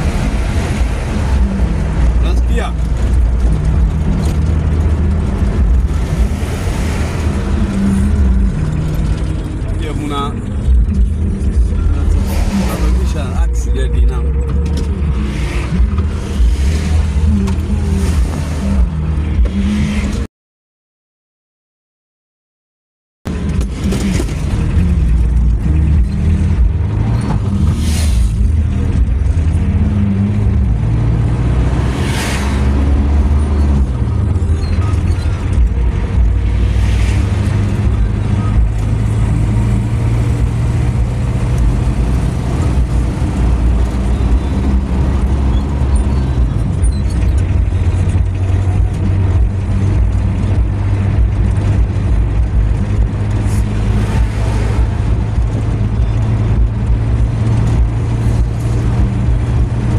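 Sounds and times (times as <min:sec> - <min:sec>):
car engine and tyre hum: 0:00.0 - 0:20.3, 0:23.3 - 0:59.9.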